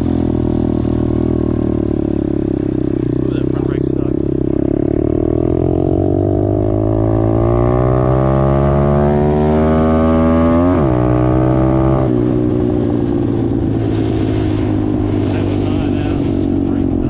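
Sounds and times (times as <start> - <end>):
dirt bike engine accelerating: 0.0 - 17.0.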